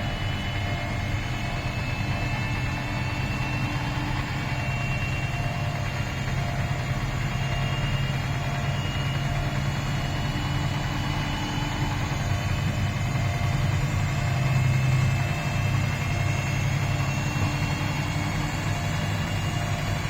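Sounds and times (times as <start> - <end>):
faint high whine: 0.0 - 20.0
washing machine motor hum: 0.0 - 20.0.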